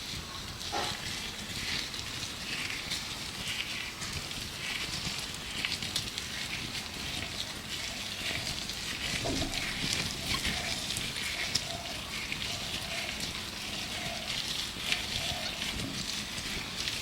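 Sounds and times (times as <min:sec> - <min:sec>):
birds calling: 0:00.0 - 0:17.0
gloved hands rubbing and crinkling: 0:00.0 - 0:17.0.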